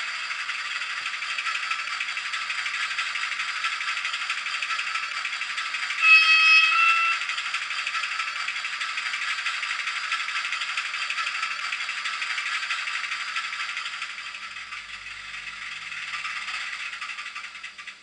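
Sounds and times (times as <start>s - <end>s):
thin rattling engine chug from small speaker: 0.0s - 18.0s.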